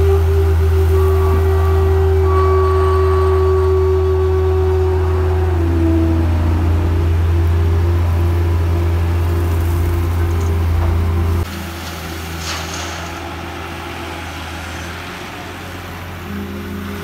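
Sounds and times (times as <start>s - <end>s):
excavator engine drone: 0.0s - 17.0s
hydraulic whine: 0.0s - 17.0s.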